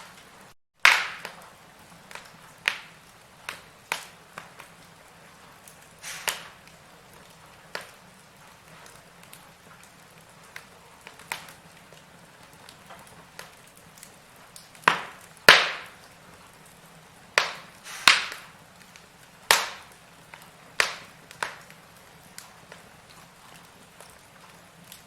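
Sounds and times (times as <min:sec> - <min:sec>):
firewood crackling in a fireplace: 0:00.0 - 0:25.0.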